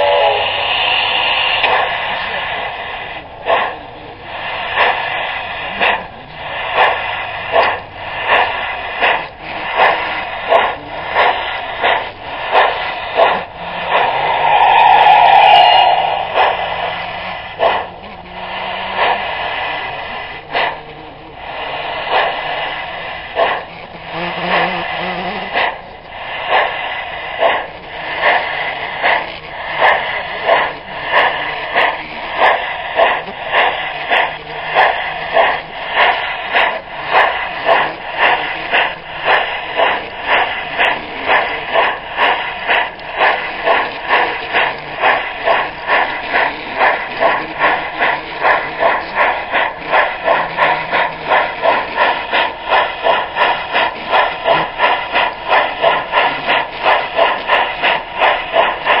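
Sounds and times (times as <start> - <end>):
model steam locomotive chuffing: 0.0 - 59.0.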